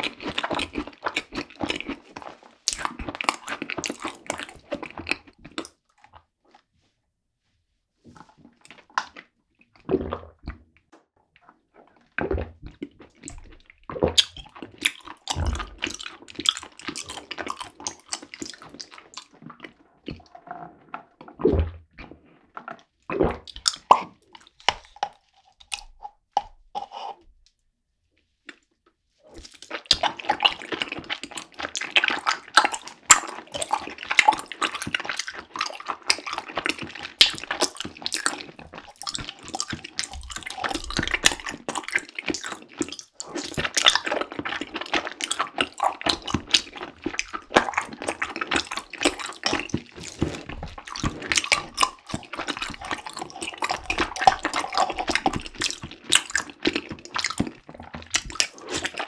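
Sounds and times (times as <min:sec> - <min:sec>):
wet sticky chewing: 0:00.0 - 0:06.6, 0:11.4 - 0:27.2, 0:29.3 - 0:59.0.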